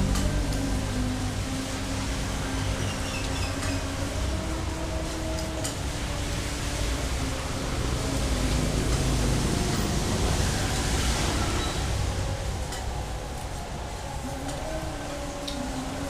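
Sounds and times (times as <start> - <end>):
passing traffic: 0.0 - 16.0
rain rushing: 0.0 - 16.0.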